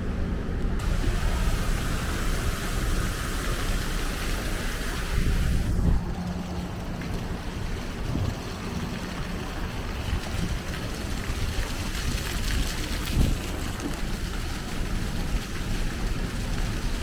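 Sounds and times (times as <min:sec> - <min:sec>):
low steady hum: 0:00.0 - 0:17.0
wind buffeting microphone: 0:00.3 - 0:17.0.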